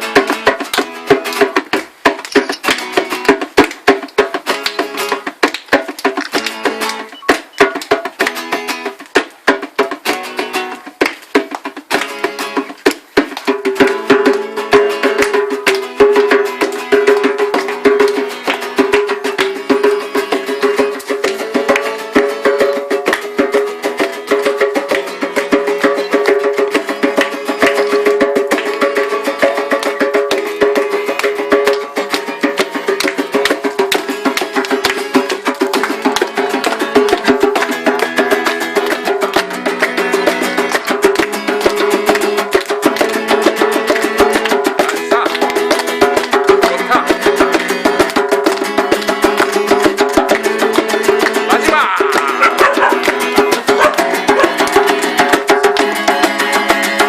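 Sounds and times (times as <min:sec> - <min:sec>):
acoustic guitar strumming: 0:00.0 - 0:57.0
djembe drum strokes: 0:00.0 - 0:57.0.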